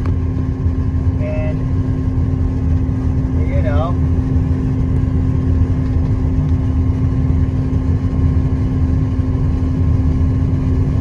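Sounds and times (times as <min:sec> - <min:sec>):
diesel engine drone: 0:00.0 - 0:11.0
steady hum: 0:00.0 - 0:11.0.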